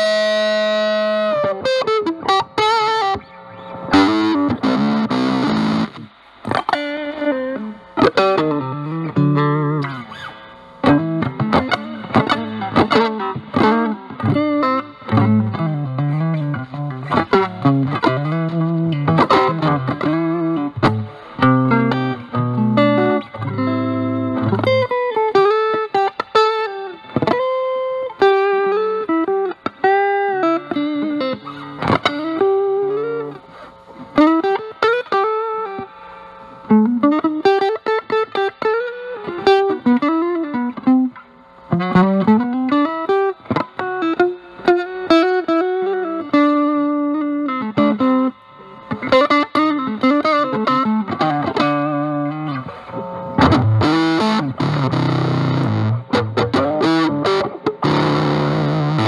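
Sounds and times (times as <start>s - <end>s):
fuzz electric guitar blues lead: 0.0s - 59.0s.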